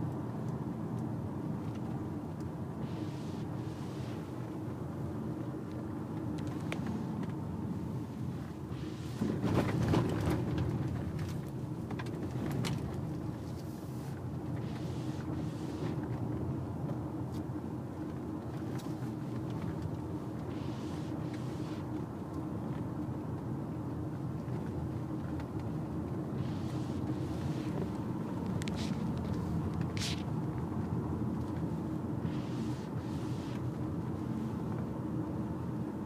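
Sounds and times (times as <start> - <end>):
car engine and road drone: 0.0 - 36.0.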